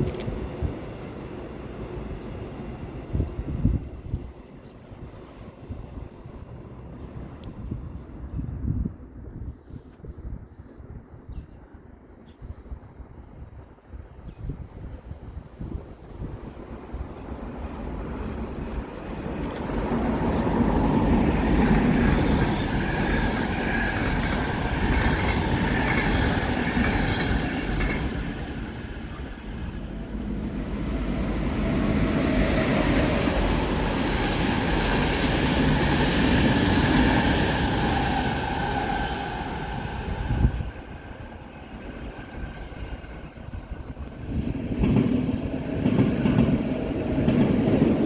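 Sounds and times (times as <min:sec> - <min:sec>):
passenger train rumbling past: 0:00.0 - 0:09.9, 0:11.9 - 0:48.0.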